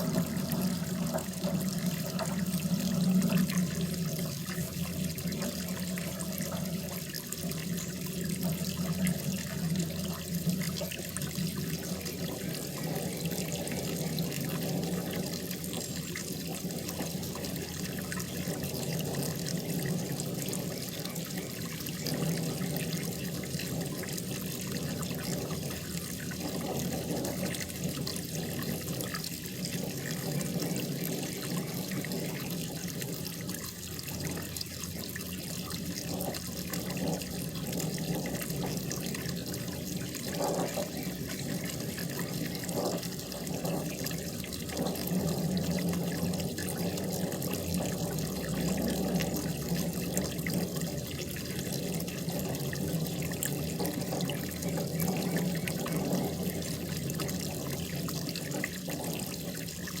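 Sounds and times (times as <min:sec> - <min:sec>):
water splashing into pond: 0:00.0 - 1:00.0.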